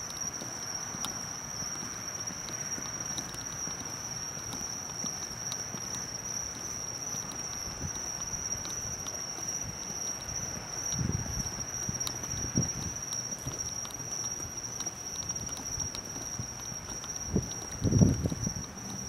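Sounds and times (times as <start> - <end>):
footsteps on pavement: 0.0 - 19.0
high-pitched insect chorus: 0.0 - 19.0.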